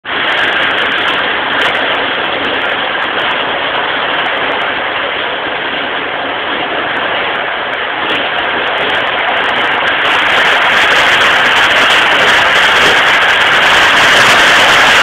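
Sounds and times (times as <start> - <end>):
train running at speed: 0.0 - 15.0.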